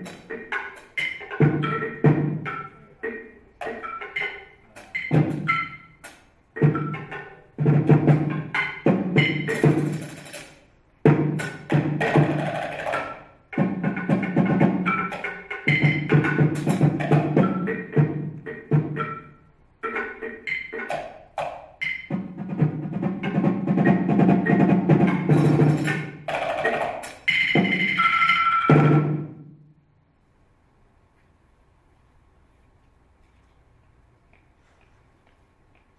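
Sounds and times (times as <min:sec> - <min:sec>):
wood blocks struck with mallets: 0:00.0 - 0:29.4.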